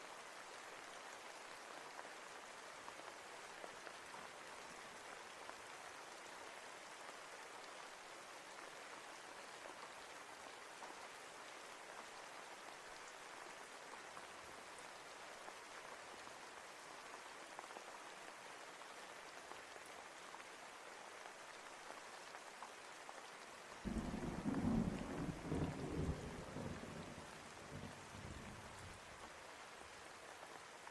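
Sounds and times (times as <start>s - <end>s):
soft steady rain: 0.0s - 30.9s.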